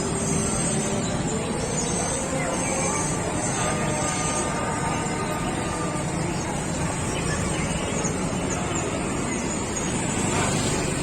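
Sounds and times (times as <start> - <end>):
rumble of passing traffic: 0.0 - 11.0.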